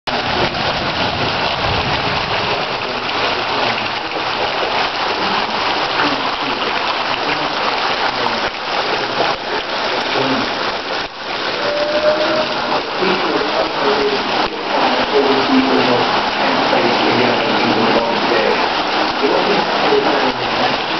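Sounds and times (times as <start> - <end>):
heavy rain pouring on flooded street: 0.1 - 20.9.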